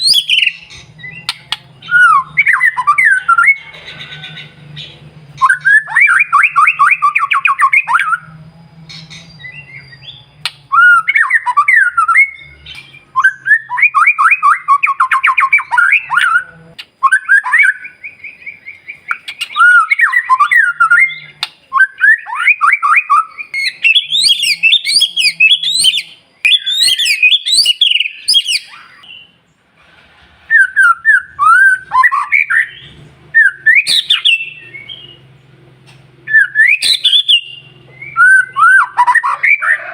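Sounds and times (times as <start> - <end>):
bird singing trilled phrases: 0.0 - 29.6, 30.6 - 39.9.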